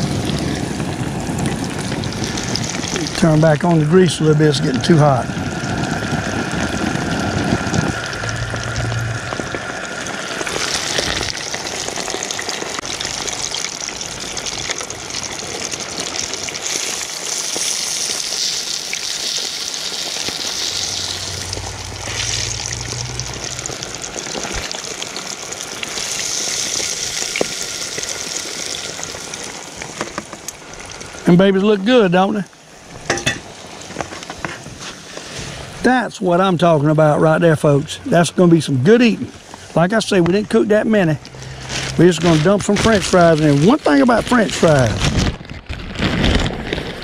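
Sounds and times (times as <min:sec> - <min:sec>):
fish sizzling in hot grease: 0:00.0 - 0:35.8, 0:39.0 - 0:47.0.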